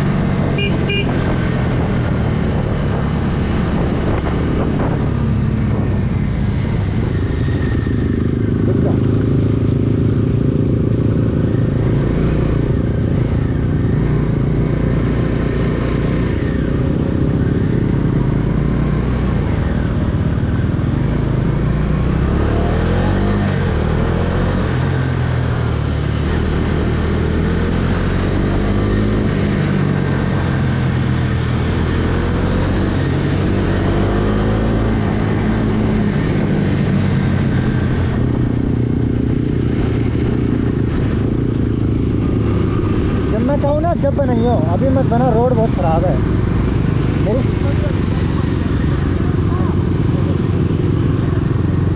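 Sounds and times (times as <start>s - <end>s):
motorcycle engine running: 0.0s - 22.3s, 28.0s - 51.9s.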